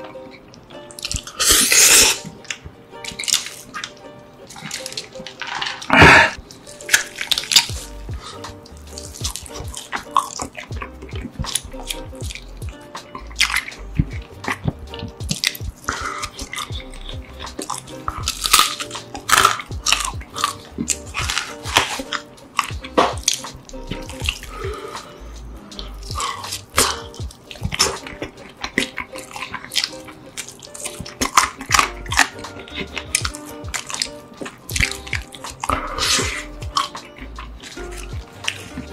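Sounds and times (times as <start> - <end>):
wet chewing and lip smacking: 0.2 - 38.9.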